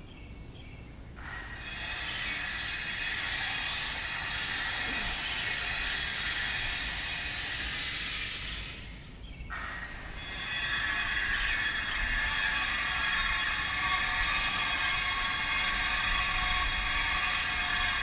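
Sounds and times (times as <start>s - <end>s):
power tool grinding stone: 1.2s - 18.0s.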